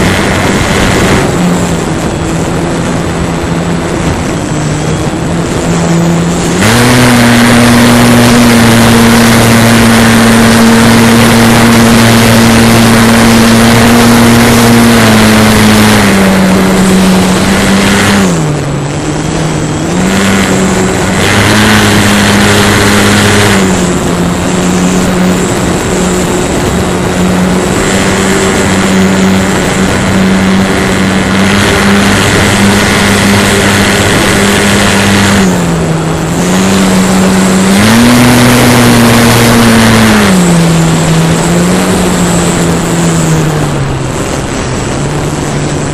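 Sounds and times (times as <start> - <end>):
model airplane motor whine: 0.0 - 45.9
rushing wind: 0.0 - 45.9.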